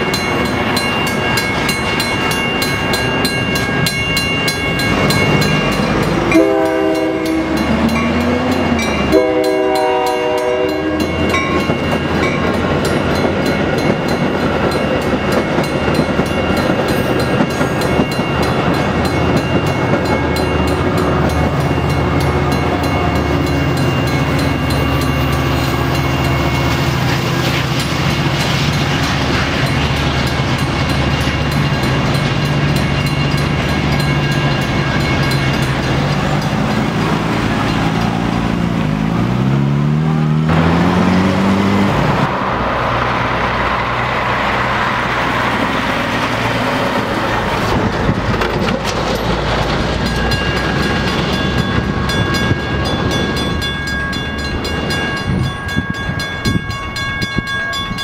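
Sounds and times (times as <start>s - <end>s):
road traffic passing: 0.0s - 57.6s
crossing bell ringing: 0.0s - 58.0s
diesel train passing: 0.0s - 58.0s.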